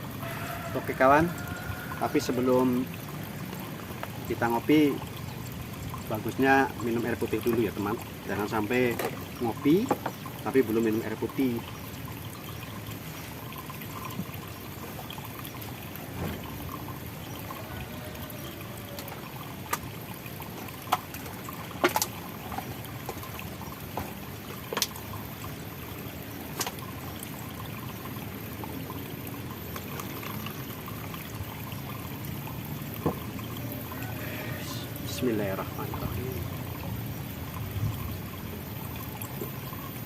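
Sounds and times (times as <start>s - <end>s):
water trickling: 0.0s - 40.0s.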